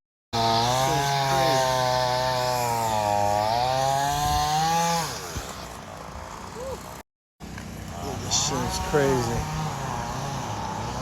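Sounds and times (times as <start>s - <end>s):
chainsaw cutting wood: 0.4s - 11.0s.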